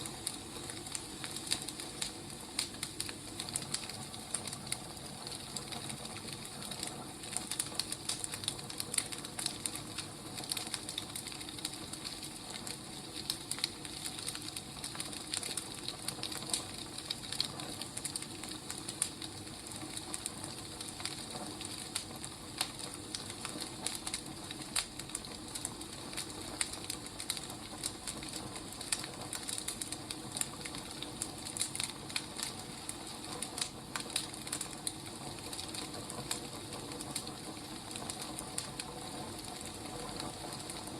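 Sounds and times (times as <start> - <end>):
firewood crackling and popping: 0.0 - 40.9
steady hiss of fire: 0.0 - 40.9.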